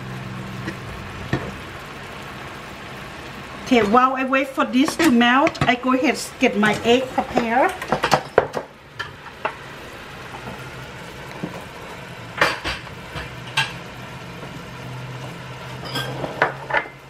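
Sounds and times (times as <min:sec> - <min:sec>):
beef sizzling in a frying pan: 0:00.0 - 0:17.0.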